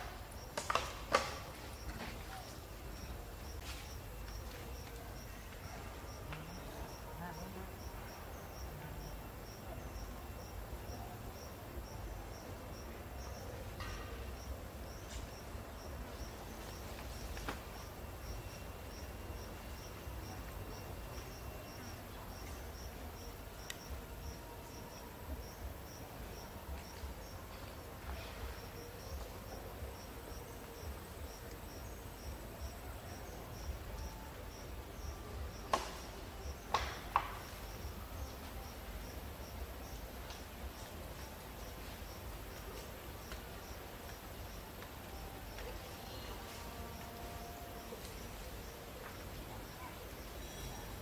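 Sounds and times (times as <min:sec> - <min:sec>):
insect chirping: 0:00.0 - 0:51.0.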